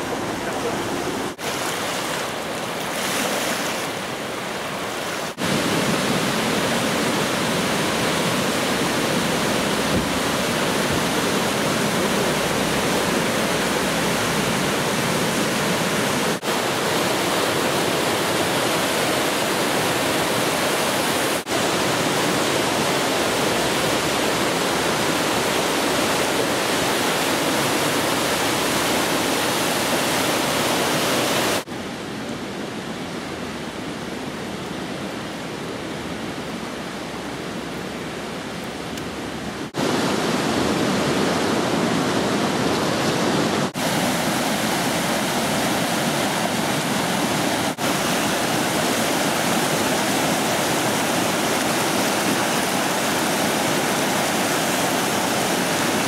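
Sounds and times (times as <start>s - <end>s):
river water rushing over rapids: 0.0s - 56.0s.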